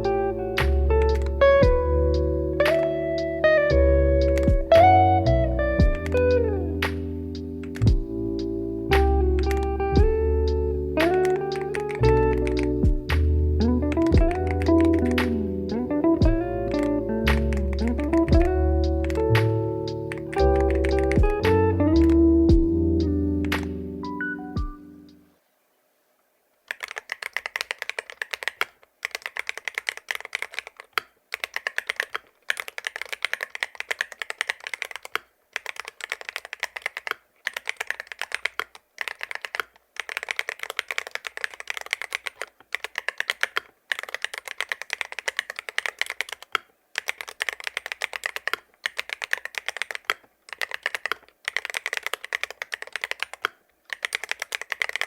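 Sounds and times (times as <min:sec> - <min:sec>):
keyboard keystroke clacks: 0:00.0 - 0:24.8, 0:26.7 - 0:55.0.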